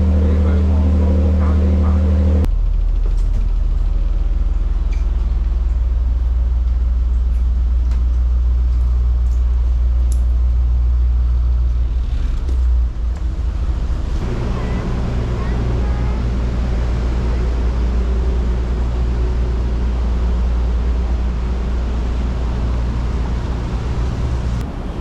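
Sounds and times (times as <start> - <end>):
ferry engine droning: 0.0 - 25.0.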